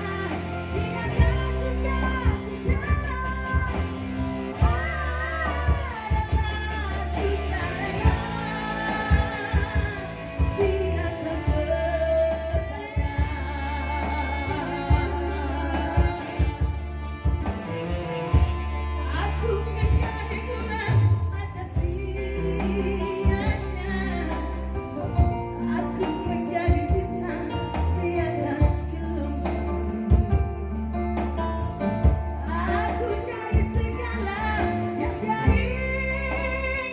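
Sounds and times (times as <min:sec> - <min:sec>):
song through pa speakers: 0:00.0 - 0:36.9.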